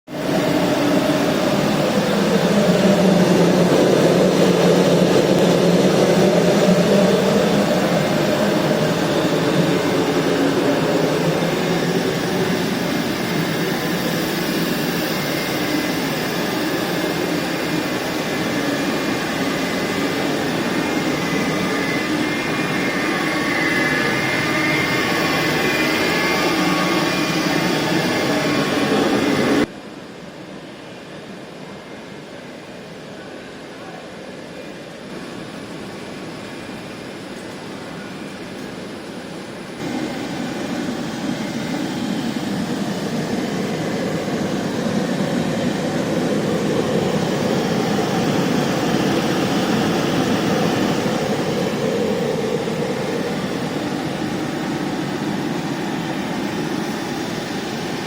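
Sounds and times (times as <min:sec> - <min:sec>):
low drone: 0:00.1 - 0:30.2, 0:39.4 - 0:58.0.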